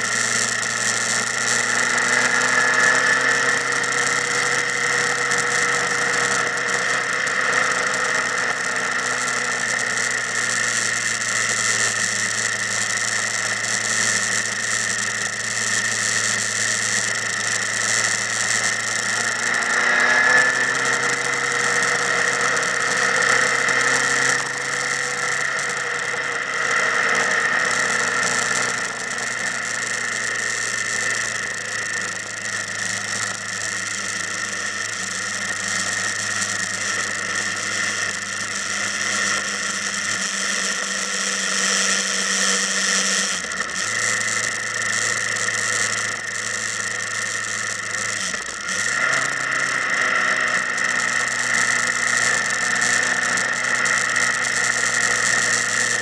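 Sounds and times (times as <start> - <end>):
motorcycle engines running: 0.0 - 56.0.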